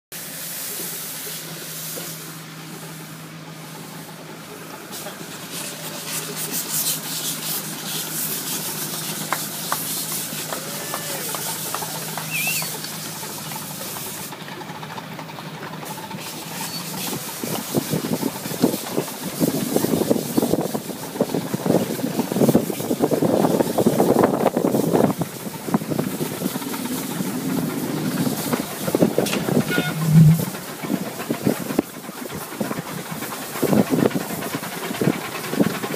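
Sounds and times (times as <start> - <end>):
steam locomotive hissing steam: 0.1 - 35.9.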